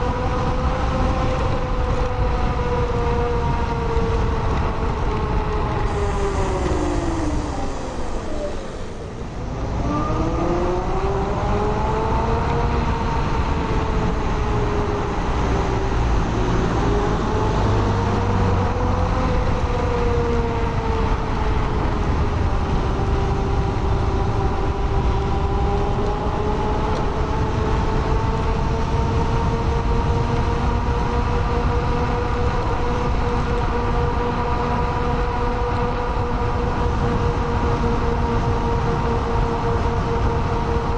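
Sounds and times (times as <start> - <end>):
electric scooter motor whine: 0.0 - 40.9
road and wind rumble: 0.0 - 40.9.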